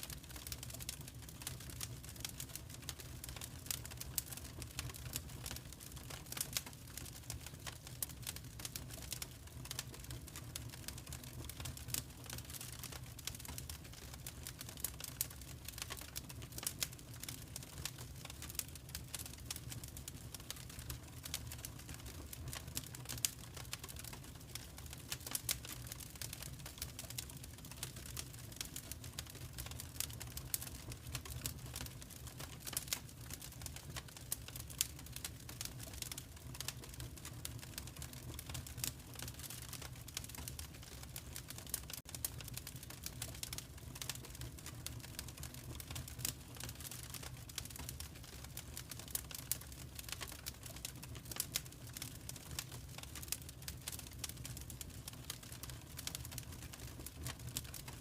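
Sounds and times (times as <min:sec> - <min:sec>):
fire crackling and popping: 0:00.0 - 0:58.0
low fire rumble: 0:00.2 - 0:58.0.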